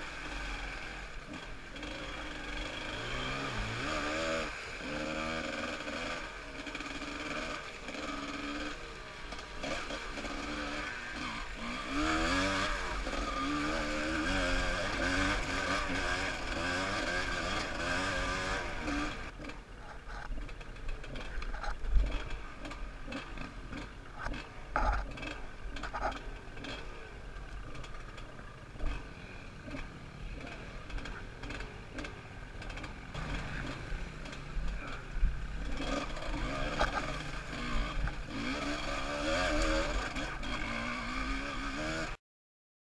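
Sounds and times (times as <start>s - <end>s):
two-stroke motorcycle engine revving: 0.0s - 42.2s.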